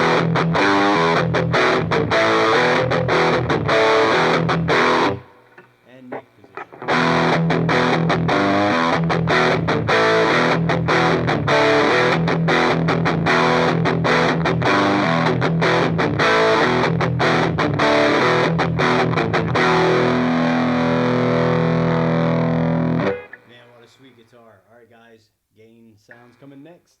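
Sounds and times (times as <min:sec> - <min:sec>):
distorted electric guitar riff: 0:00.0 - 0:23.6.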